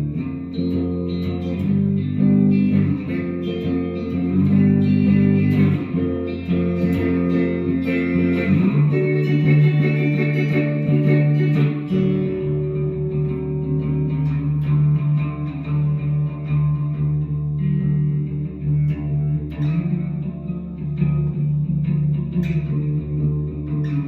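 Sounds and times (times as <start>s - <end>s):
guitar chords: 0.0s - 24.0s.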